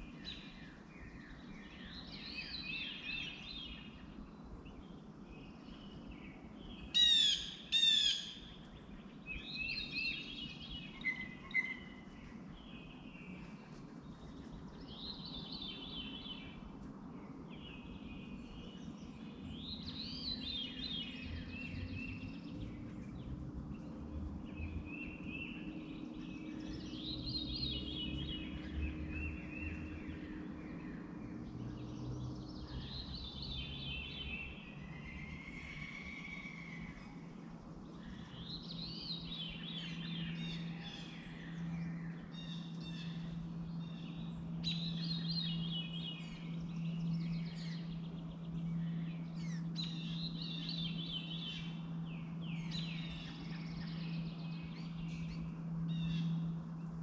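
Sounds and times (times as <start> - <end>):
songbird chirping: 0.0 - 57.0
steady low hum: 0.0 - 57.0.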